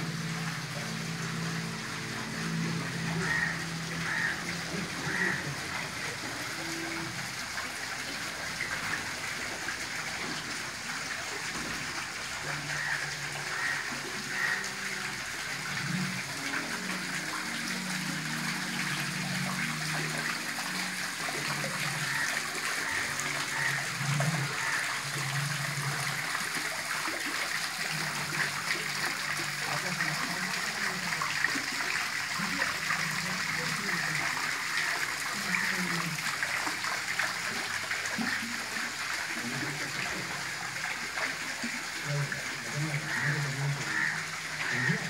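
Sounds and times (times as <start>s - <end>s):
fountain water splashing into pool: 0.0s - 45.0s.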